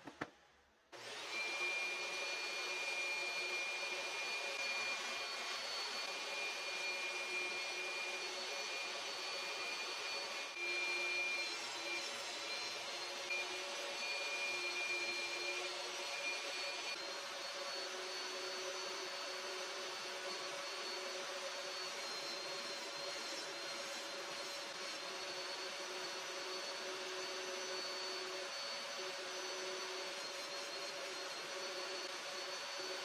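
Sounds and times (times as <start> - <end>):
table saw whining: 0.0 - 33.0.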